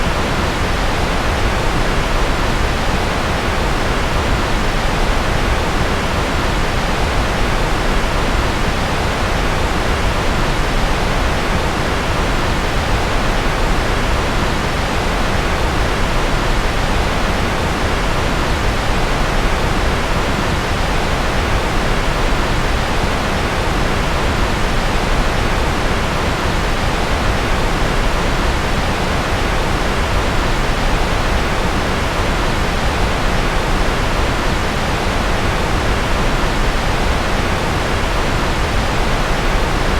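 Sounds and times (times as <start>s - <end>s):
steady rushing white noise: 0.0s - 39.9s.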